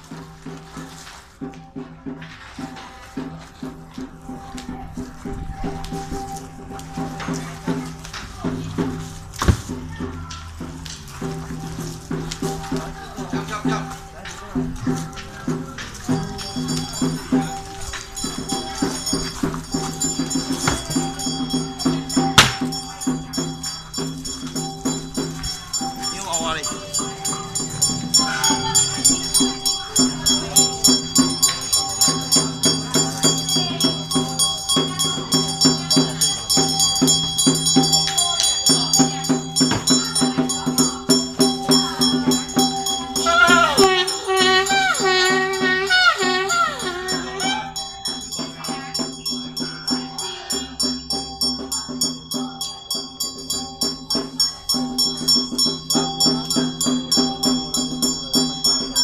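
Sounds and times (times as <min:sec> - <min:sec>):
rattling jingling percussion: 0:00.0 - 0:59.0
ringing metallic tones: 0:10.0 - 0:59.0
wavering high melody: 0:11.2 - 0:59.0.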